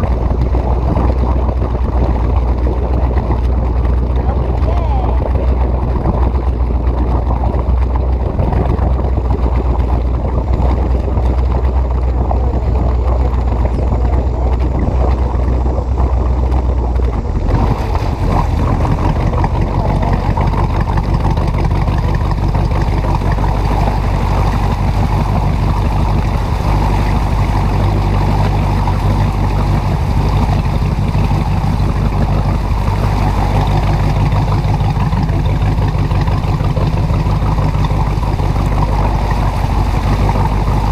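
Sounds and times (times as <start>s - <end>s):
boat motor droning: 0.0s - 40.9s
water and hull noise: 0.0s - 40.9s.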